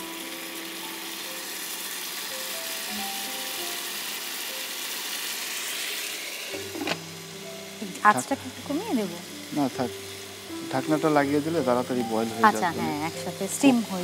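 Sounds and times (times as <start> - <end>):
meat sizzling in a frying pan: 0.0 - 14.0
soft background music: 0.0 - 14.0.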